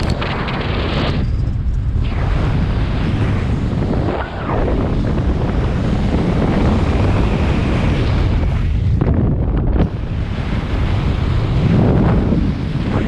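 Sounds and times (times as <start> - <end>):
loud wind noise on microphone: 0.0 - 13.0.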